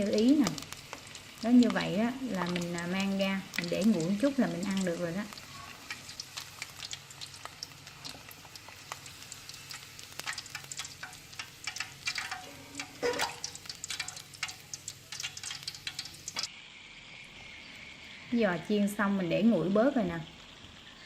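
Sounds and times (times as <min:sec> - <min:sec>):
hot oil crackling and popping: 0:00.0 - 0:16.5, 0:18.1 - 0:21.0.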